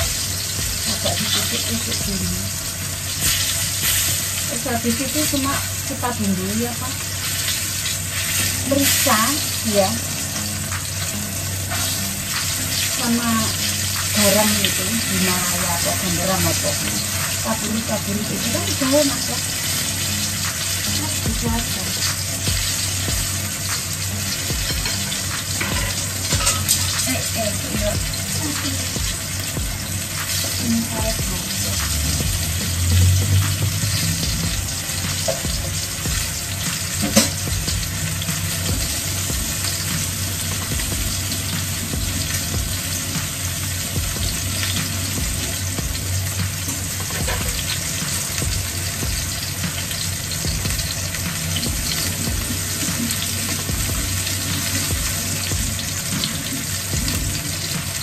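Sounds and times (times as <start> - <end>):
food sizzling in a frying pan: 0.0 - 58.0.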